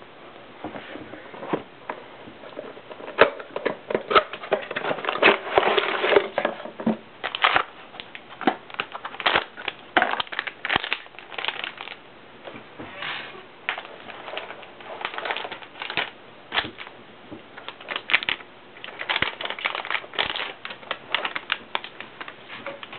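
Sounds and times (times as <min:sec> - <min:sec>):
crinkling: 0:00.6 - 0:22.9.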